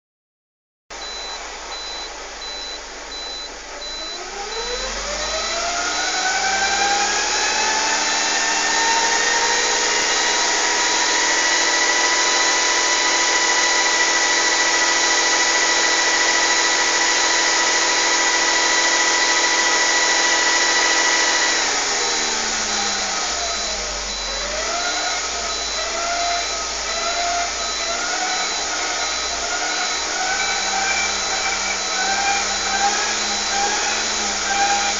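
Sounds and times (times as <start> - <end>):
car transmission whine: 1.0 - 34.9.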